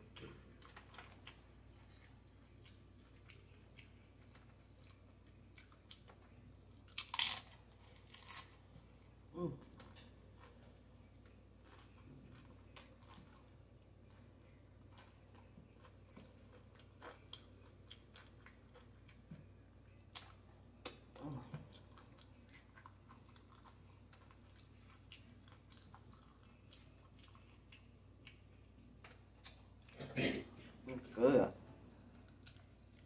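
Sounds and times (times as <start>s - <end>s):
person chewing: 0.0s - 8.7s, 9.6s - 30.4s, 31.9s - 33.0s.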